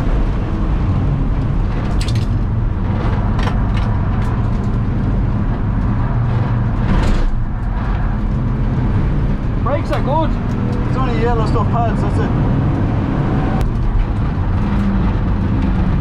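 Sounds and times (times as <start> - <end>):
car engine running hard: 0.0 - 16.0
tyre and road noise: 0.0 - 16.0.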